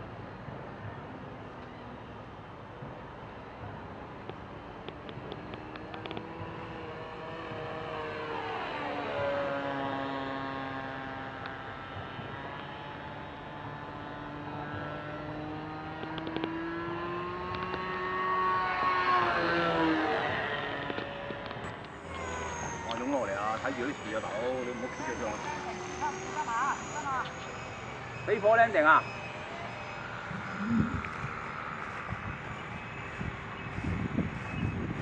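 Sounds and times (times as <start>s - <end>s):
model plane engine: 4.6s - 35.0s.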